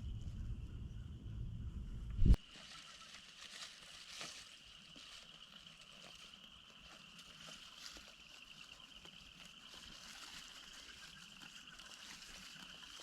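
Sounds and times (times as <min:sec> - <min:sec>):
frogs trilling chorus: 0:02.5 - 0:13.0.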